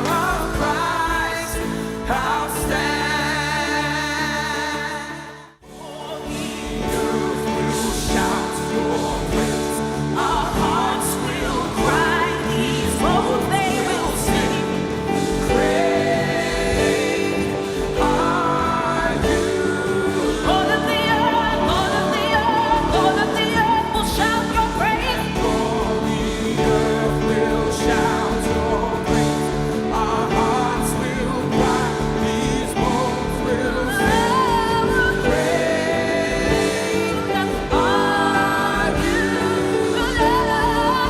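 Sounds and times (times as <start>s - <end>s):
singers with band: 0.0s - 41.0s.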